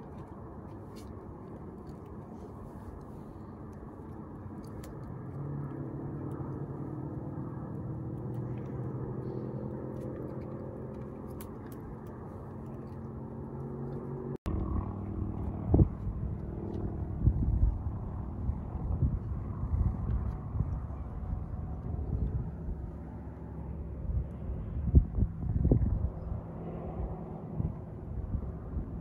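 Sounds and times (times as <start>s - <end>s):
distant engine droning: 0.0s - 29.0s
wind buffeting microphone: 0.0s - 29.0s.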